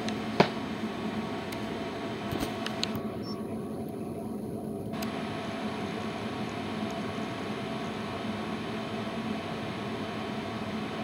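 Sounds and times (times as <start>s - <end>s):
tumble dryer running: 0.0s - 11.0s.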